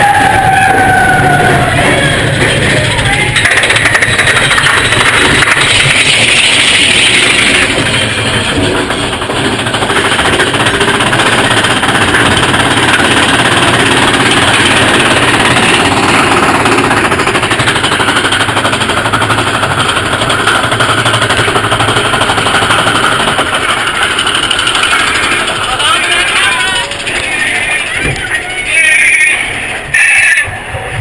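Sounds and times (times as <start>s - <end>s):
roller coaster cars rattling: 0.0s - 31.0s
rushing noise: 0.0s - 31.0s.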